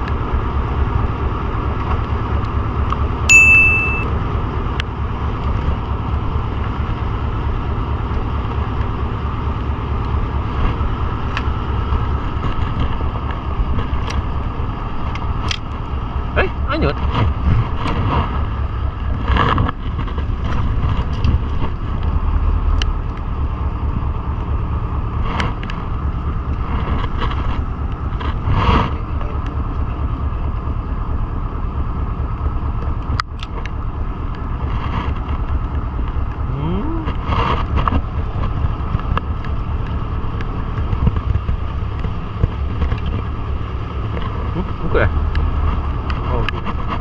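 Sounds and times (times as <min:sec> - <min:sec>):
boat engine rumbling: 0:00.0 - 0:47.0.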